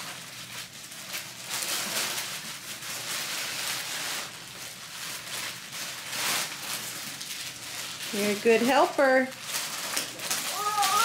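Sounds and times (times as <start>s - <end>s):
gift bag rustling and crinkling: 0.0s - 11.0s.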